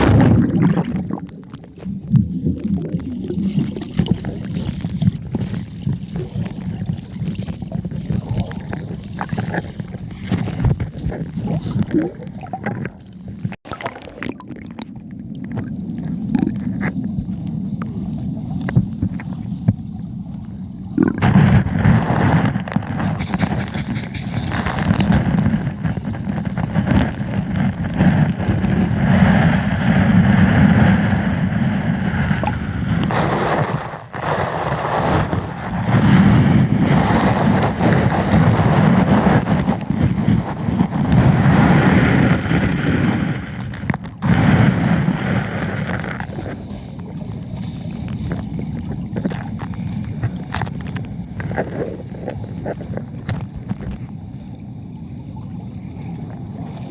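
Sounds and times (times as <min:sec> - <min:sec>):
rushing churning water: 0:00.0 - 0:17.5, 0:21.0 - 0:54.1.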